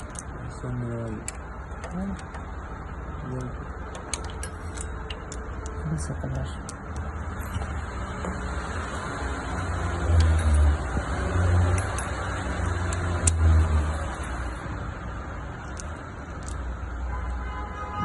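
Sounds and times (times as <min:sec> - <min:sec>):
car engine rumbling: 0:00.0 - 0:17.1.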